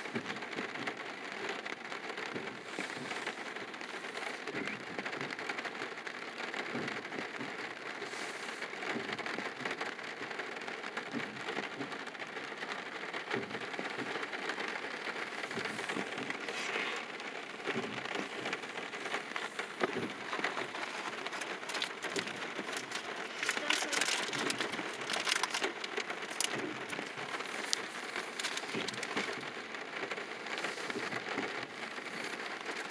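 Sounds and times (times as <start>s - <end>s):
rain pattering on car roof: 0.0s - 32.9s.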